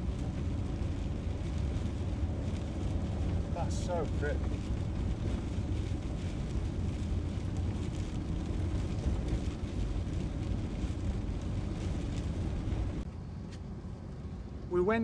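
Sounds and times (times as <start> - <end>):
motorhome engine: 0.0 - 15.0
road rumble: 0.0 - 15.0.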